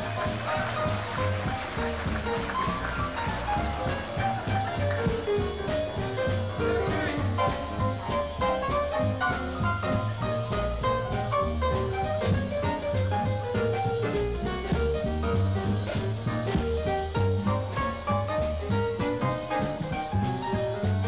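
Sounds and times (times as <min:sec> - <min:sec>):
drums keeping a steady beat: 0:00.0 - 0:21.0
grand piano runs: 0:00.0 - 0:21.0
jazz band playing: 0:00.0 - 0:21.0.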